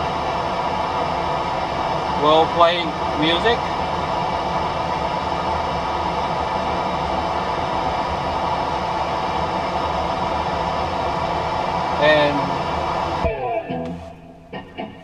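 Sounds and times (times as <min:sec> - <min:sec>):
car engine idling: 0:00.0 - 0:14.9
ventilation fan hiss: 0:00.0 - 0:15.0.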